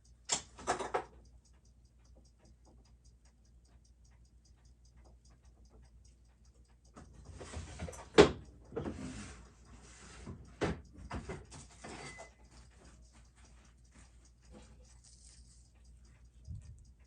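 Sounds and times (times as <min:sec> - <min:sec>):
faint watch ticking: 0:00.0 - 0:00.3, 0:00.9 - 0:17.0.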